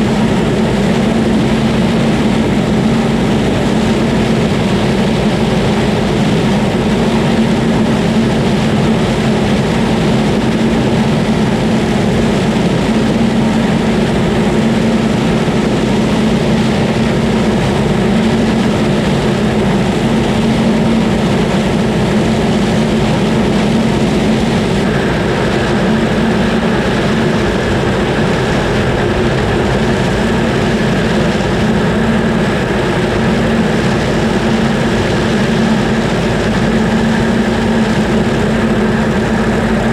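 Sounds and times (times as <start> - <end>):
diesel engine running: 0.0 - 39.9
high steady whine: 0.0 - 39.9.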